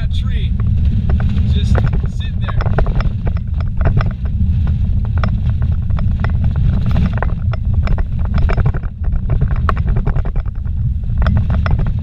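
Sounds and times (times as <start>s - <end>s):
car rumbling on dirt road: 0.0s - 12.0s
road surface rattles: 0.0s - 12.0s.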